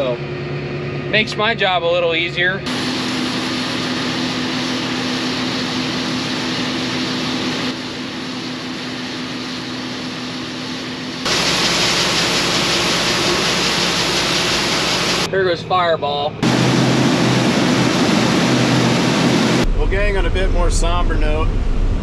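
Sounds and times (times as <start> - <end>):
harvest machinery engines droning: 0.0 - 22.0.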